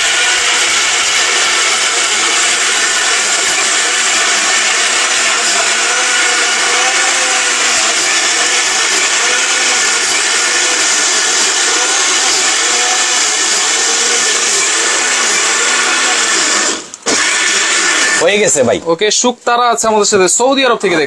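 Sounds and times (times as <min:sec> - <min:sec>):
mixer grinder motor whirring: 0:00.0 - 0:18.6.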